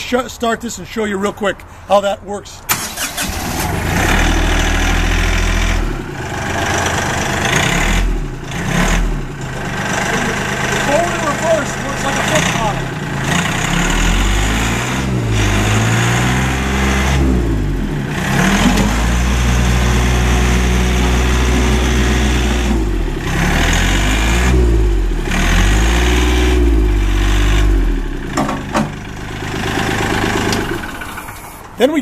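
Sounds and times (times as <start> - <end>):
tractor diesel engine revving: 2.7 - 32.0.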